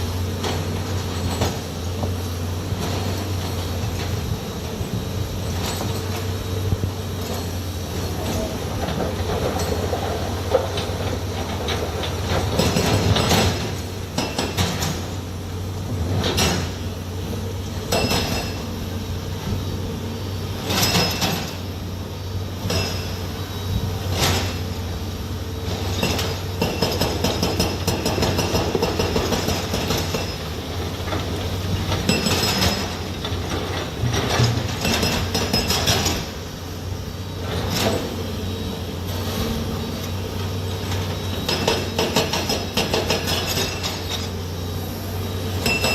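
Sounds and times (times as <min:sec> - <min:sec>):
heavy machinery droning: 0:00.0 - 0:45.9.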